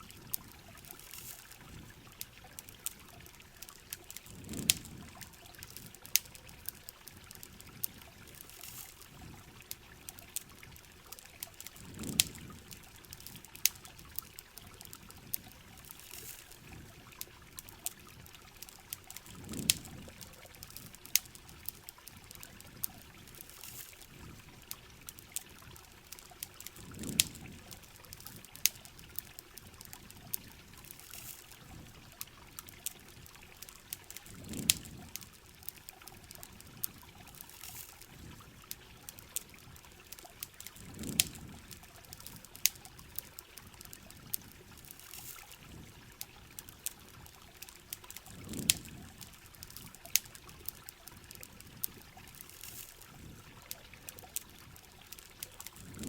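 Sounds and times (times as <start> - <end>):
campfire popping and crackling: 0.0 - 56.0
steady rain: 0.0 - 56.0.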